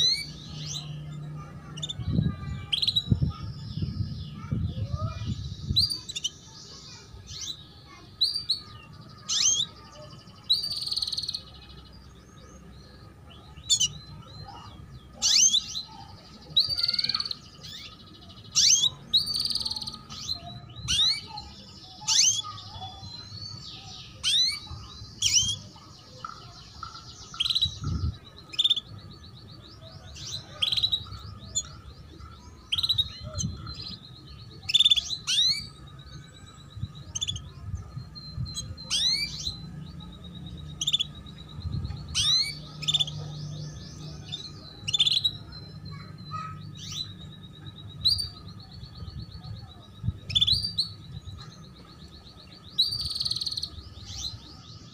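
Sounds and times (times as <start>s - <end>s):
canary chirping: 0.0s - 54.9s.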